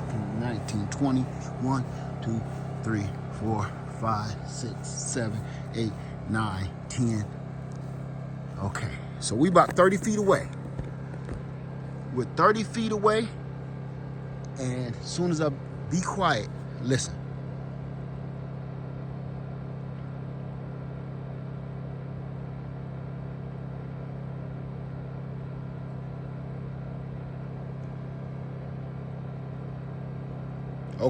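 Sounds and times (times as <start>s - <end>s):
portable generator humming: 0.0s - 31.0s.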